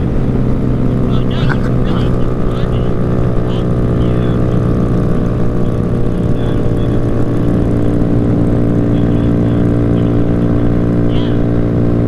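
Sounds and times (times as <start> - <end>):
motorcycle engine droning: 0.0 - 12.0
road noise: 0.0 - 12.0.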